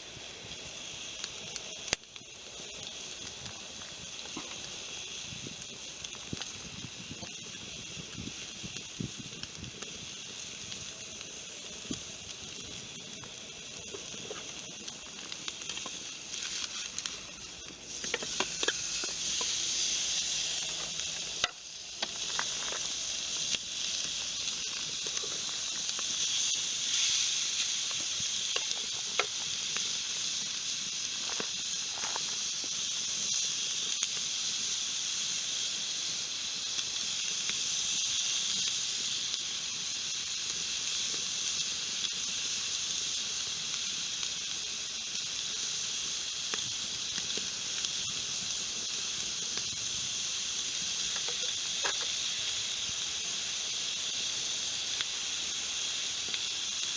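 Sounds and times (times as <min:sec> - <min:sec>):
campfire pops and crackles: 0:00.0 - 0:56.9
steak sizzling: 0:00.0 - 0:56.9.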